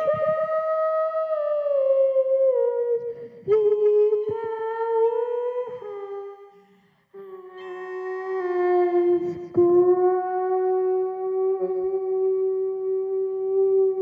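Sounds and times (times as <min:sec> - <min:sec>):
child humming into microphone: 0:00.0 - 0:06.4, 0:07.2 - 0:14.0.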